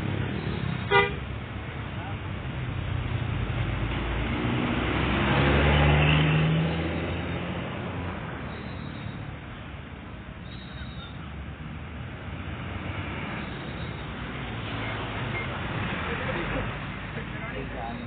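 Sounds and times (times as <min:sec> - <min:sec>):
bus engine passing: 0:00.0 - 0:18.0.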